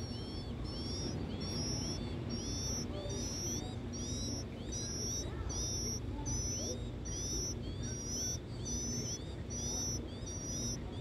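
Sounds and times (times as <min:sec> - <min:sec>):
nestlings begging with high peeps: 0:00.0 - 0:11.0.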